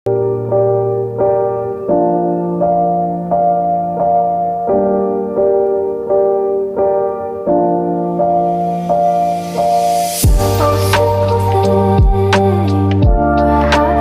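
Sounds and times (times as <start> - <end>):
piano melody: 0.1 - 14.0.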